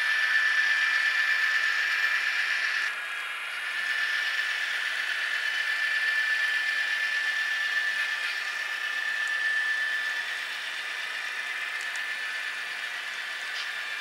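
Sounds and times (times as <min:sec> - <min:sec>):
model locomotive motor whine: 0:00.0 - 0:14.0.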